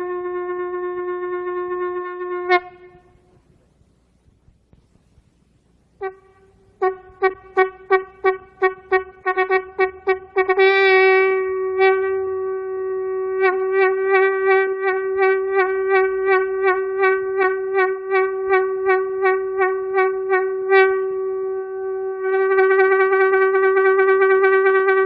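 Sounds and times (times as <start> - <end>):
conch shell blown: 0.0 - 3.4, 6.0 - 25.0.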